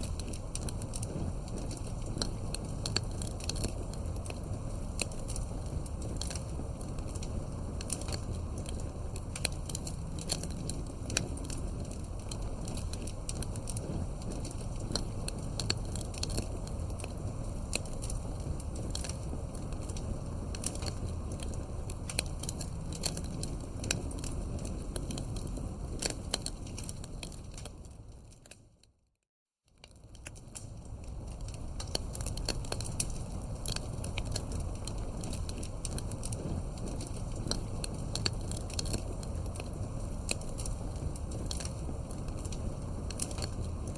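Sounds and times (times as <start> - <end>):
steady low rumble: 0.0 - 28.4, 30.0 - 43.9
campfire crackling and popping: 0.0 - 28.8, 29.8 - 43.9.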